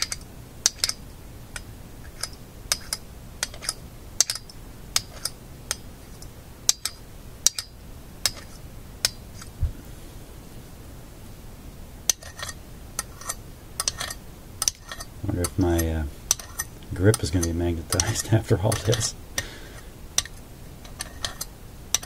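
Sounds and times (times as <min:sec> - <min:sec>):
magnet clicking on metal: 0:00.0 - 0:01.0, 0:01.6 - 0:09.5, 0:12.1 - 0:19.1, 0:20.2 - 0:22.0.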